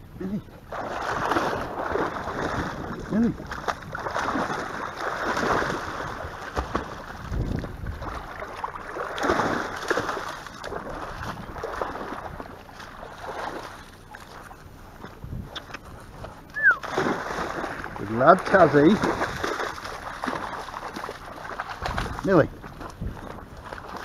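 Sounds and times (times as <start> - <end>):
water splashing and sloshing: 0.0 - 24.0
wind buffeting camera: 0.0 - 24.0.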